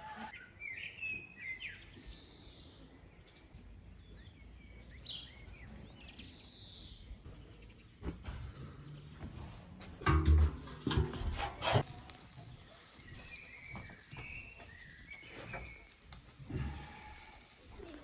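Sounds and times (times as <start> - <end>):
faint outdoor background noise: 0.0 - 18.0
songbirds chirping: 0.2 - 18.0.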